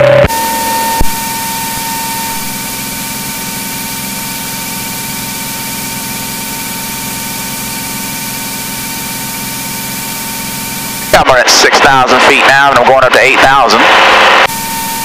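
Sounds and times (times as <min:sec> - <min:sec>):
aircraft engine drone in cabin: 0:00.0 - 0:15.0.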